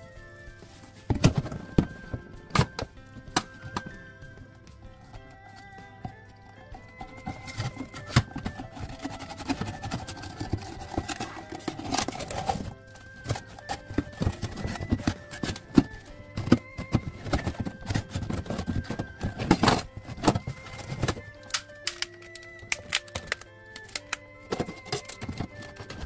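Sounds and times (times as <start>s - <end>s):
clicking clip-clop percussion: 0.0s - 26.0s
melody of held notes: 0.0s - 26.0s.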